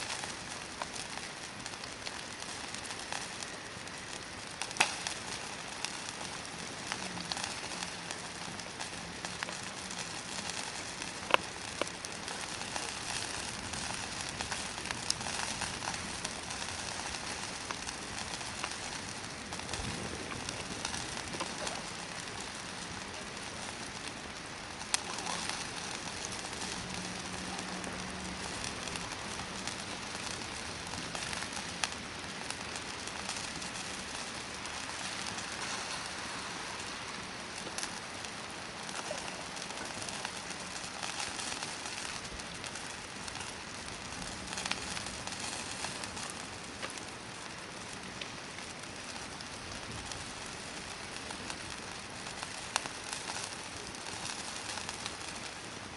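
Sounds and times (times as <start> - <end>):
campfire hissing and crackling: 0.0 - 55.9.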